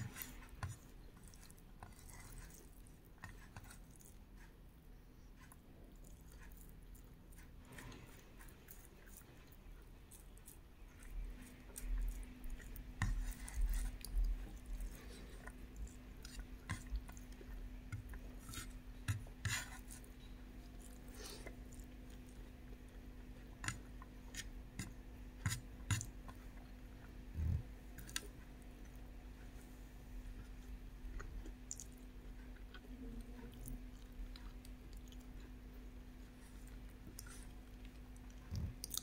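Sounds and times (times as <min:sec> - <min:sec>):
person chewing with wet mouth sounds: 0:00.0 - 0:39.0
steady low hum: 0:00.0 - 0:39.0.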